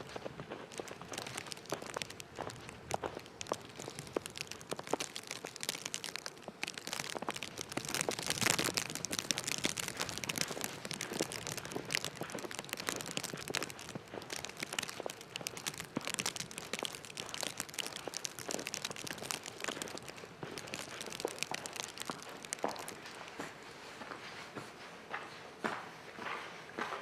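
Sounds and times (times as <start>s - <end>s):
footsteps crunching through snow: 0.0s - 27.0s.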